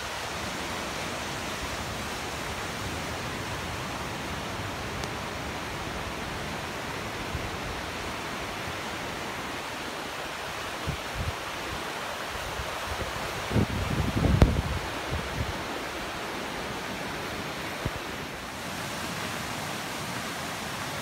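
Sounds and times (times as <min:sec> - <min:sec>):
muddy river rushing: 0:00.0 - 0:21.0.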